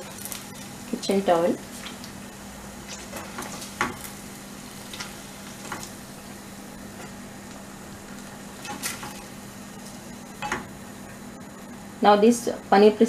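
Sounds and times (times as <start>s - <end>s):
food frying in hot oil: 0.0s - 11.3s
low steady hum: 0.0s - 13.0s.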